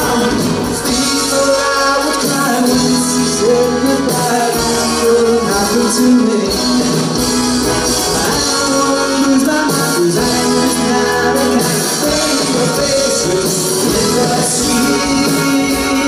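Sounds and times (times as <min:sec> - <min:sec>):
bass guitar: 0:00.0 - 0:16.0
drums: 0:00.0 - 0:16.0
electric guitar: 0:00.0 - 0:16.0
piano: 0:00.0 - 0:16.0.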